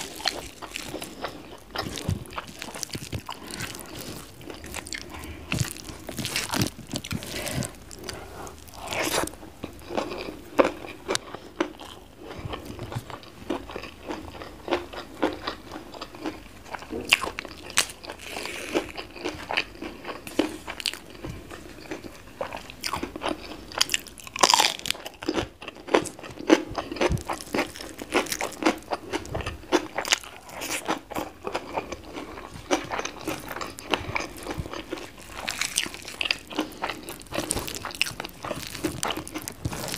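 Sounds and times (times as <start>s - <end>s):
crunching and chewing food: 0.0s - 39.9s.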